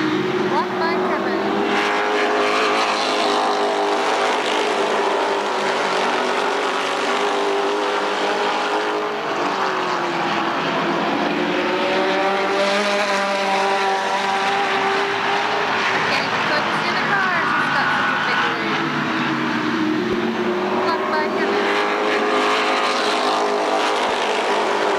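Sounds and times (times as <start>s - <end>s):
race car engine at speed: 0.0s - 24.9s.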